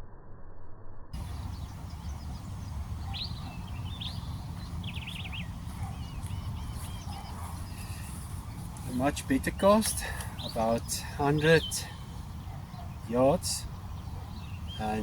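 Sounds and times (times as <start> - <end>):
bird chirps and trill: 1.2 - 15.0.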